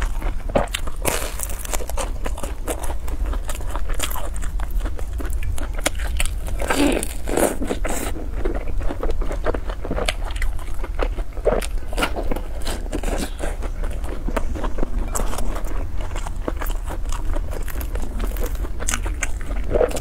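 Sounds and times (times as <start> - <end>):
crunchy chewing of fried dough: 0.0 - 20.0
steady low hum: 0.0 - 20.0.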